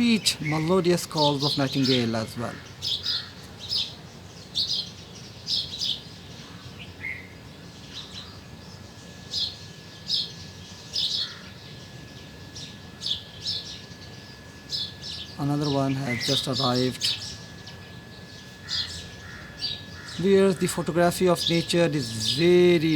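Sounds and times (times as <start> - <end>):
distant songbird chirping: 0.0 - 22.9.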